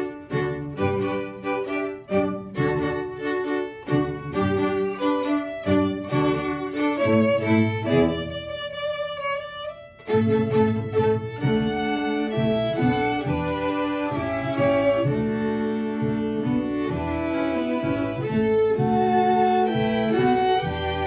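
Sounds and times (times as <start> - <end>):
string ensemble playing: 0.0 - 21.0.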